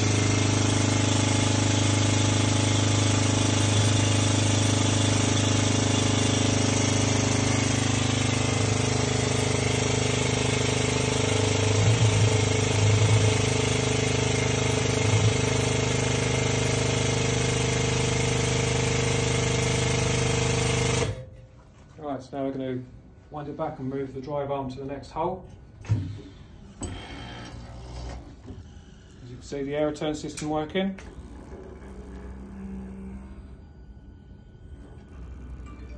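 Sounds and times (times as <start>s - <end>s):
hydraulic pump running: 0.0s - 21.4s, 25.8s - 35.9s.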